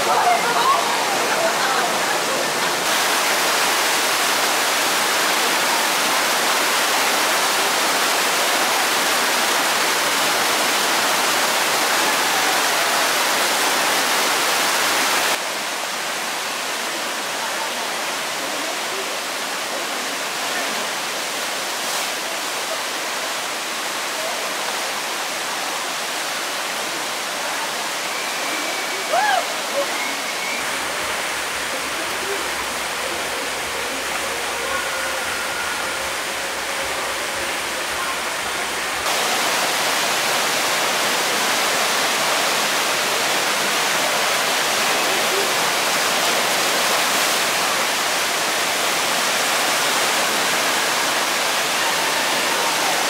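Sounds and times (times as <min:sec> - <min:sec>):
rushing whitewater: 0:00.0 - 0:53.0.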